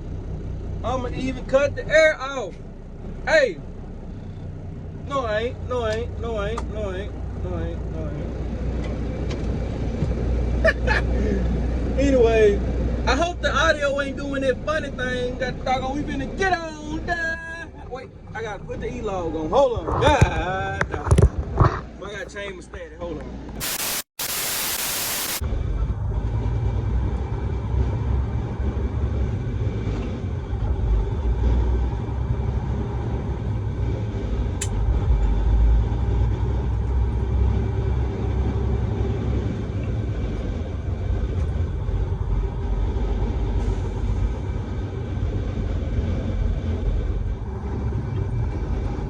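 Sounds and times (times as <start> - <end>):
truck diesel engine rumble: 0.0 - 49.0.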